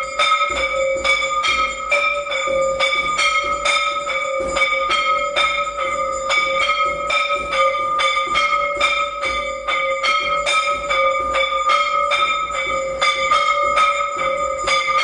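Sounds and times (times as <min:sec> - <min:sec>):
temple bells ringing: 0:00.0 - 0:15.0.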